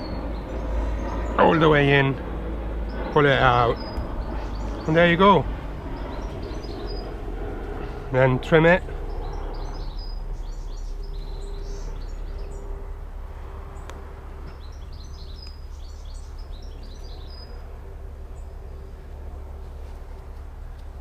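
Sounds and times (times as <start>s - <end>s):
small birds chirping: 0.0s - 13.0s, 13.6s - 21.0s
faint hum: 0.0s - 21.0s
low background rumble: 0.0s - 21.0s.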